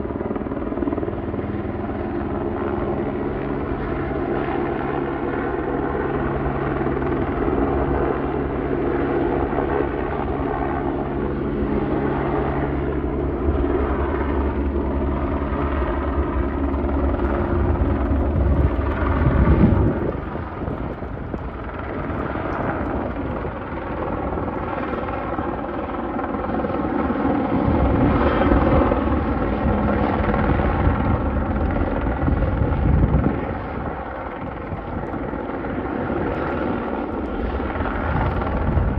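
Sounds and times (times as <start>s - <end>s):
helicopter flying overhead: 0.0s - 38.9s.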